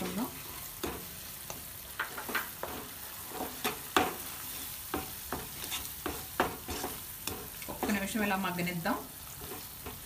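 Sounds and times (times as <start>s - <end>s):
food sizzling: 0.0s - 10.0s
spatula scraping wok: 0.0s - 10.0s.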